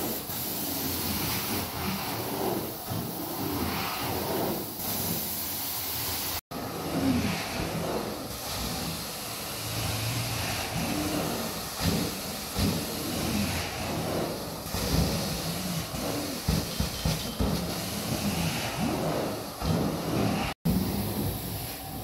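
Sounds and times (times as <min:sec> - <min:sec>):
carpet cleaner suction hiss: 0:00.0 - 0:22.0.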